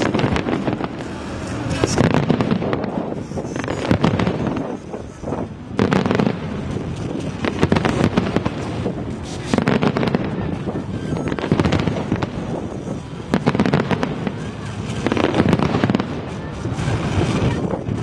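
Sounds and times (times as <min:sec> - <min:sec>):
fireworks shells bursting: 0:00.0 - 0:18.0
rumble of explosions: 0:00.0 - 0:18.0.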